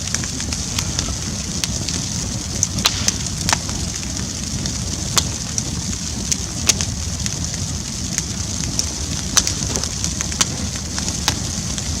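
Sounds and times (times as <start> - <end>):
bonfire hissing and rumbling: 0.0 - 12.0
wood crackling and popping: 0.0 - 12.0.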